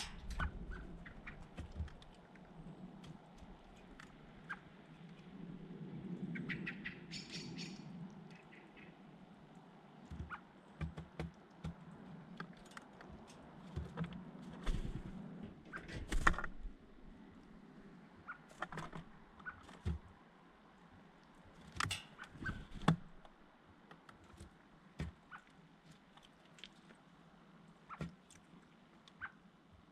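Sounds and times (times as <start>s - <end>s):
birds tapping and scuffling: 0.0s - 29.9s.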